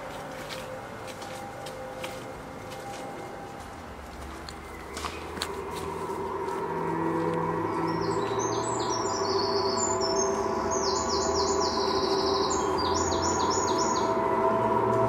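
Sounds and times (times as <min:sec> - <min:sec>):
low steady drone: 0:00.0 - 0:15.0
birds chirping: 0:02.5 - 0:15.0.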